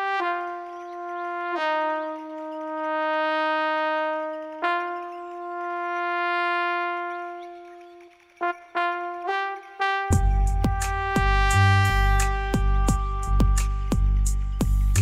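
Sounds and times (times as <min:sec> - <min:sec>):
brass-like keyboard melody: 0:00.0 - 0:15.0.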